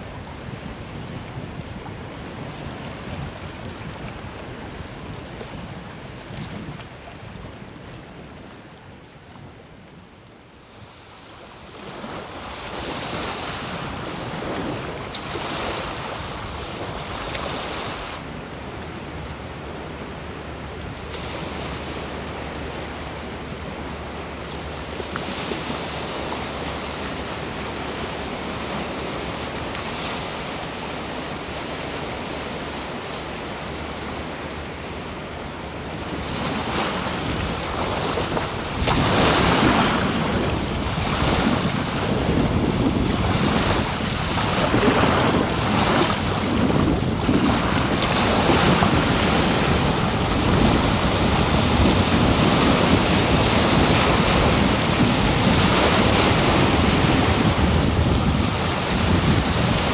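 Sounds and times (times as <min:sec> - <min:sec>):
wind on the microphone: 0:00.0 - 0:31.5, 0:33.6 - 0:59.9
small waves washing onto a beach: 0:00.0 - 0:59.9.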